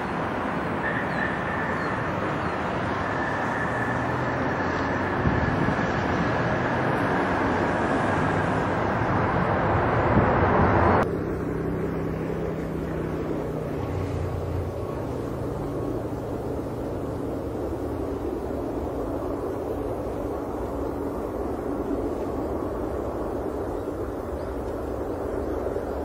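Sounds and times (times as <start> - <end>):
airliner engine drone on approach: 0.0 - 26.0
jet engines roaring on landing: 0.0 - 26.0.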